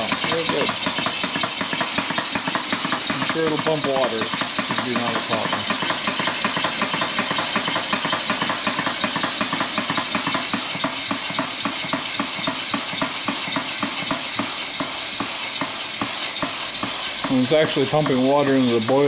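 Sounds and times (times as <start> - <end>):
exhaust air hissing: 0.0 - 19.0
pump pistons knocking: 0.0 - 19.0.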